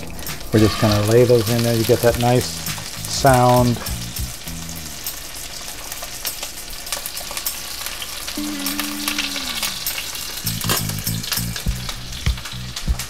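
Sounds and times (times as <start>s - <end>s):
chicken sizzling in skillet: 0.0s - 13.0s.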